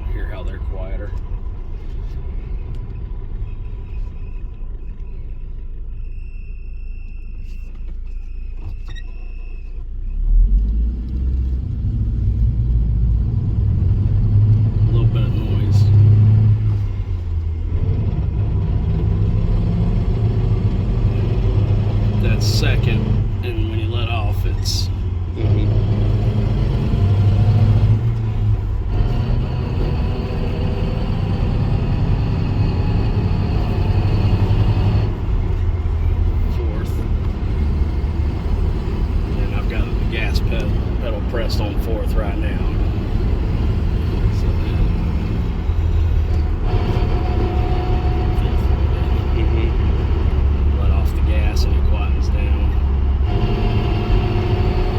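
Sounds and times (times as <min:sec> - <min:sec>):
transmission whine: 0:00.0 - 0:11.2, 0:11.8 - 0:54.9
pickup truck engine rumbling: 0:00.0 - 0:54.9.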